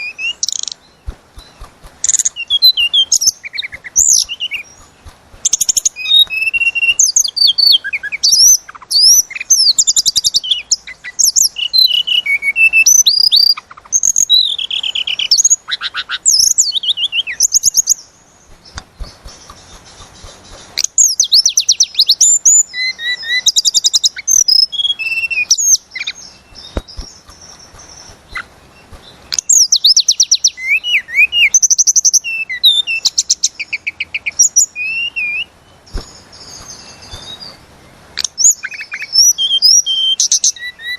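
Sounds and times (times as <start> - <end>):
bird singing trills and whistles: 0.0 - 40.9.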